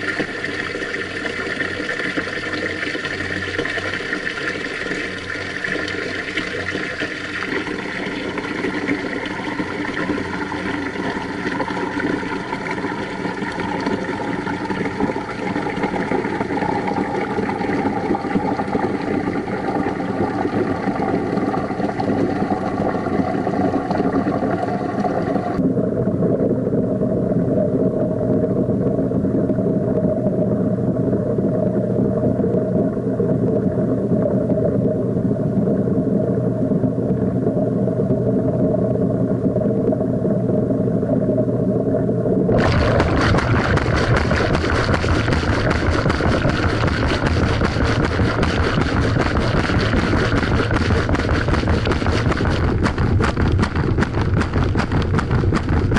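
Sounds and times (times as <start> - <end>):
washing machine humming: 0.0 - 55.9.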